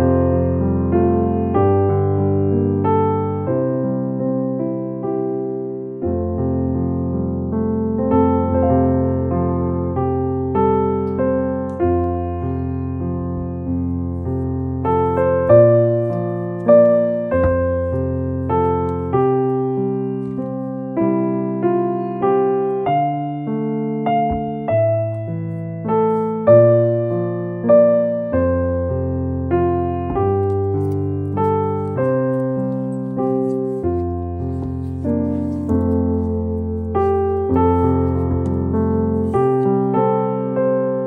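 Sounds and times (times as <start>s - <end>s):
piano music: 0.0s - 41.0s.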